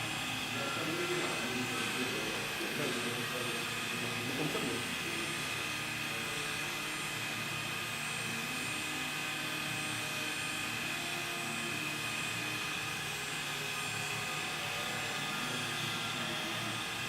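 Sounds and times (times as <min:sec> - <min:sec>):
machine humming with high whine: 0:00.0 - 0:17.0.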